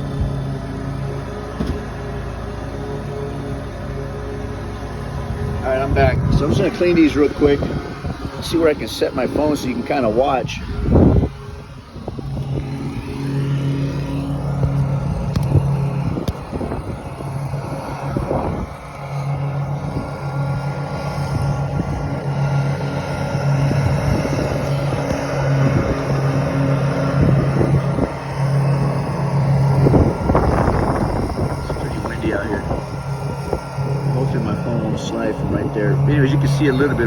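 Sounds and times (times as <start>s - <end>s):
wind buffeting microphone: 0.0s - 2.4s, 4.4s - 37.0s
steady low hum: 0.0s - 37.0s.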